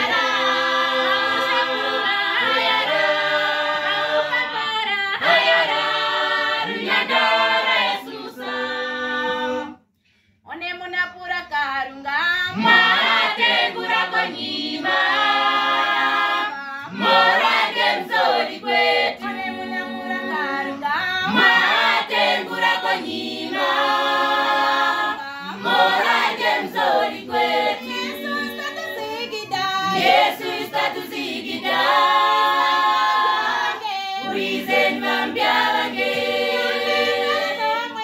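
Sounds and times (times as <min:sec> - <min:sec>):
youth choir singing a cappella: 0:00.0 - 0:09.8, 0:12.3 - 0:38.0.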